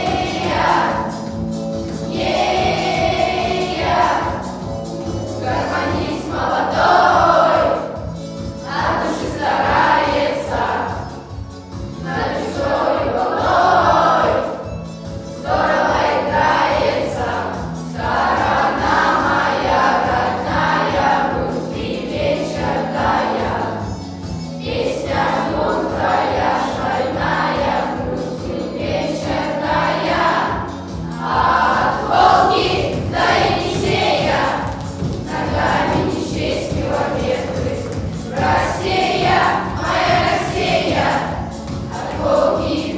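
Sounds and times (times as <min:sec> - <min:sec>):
children's choir singing: 0:00.0 - 0:42.9
instrumental accompaniment with bass: 0:00.0 - 0:42.9.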